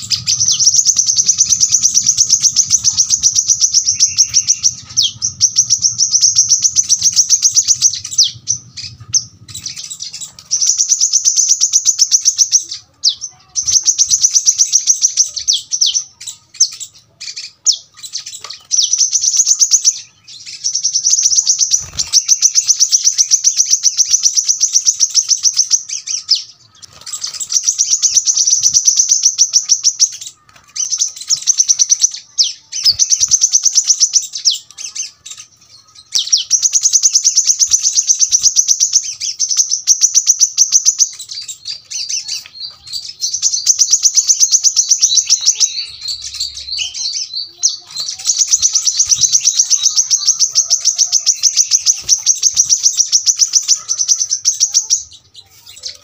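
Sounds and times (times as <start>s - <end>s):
bird chips: 0.0s - 56.0s
bird singing rapid trills: 0.0s - 56.0s.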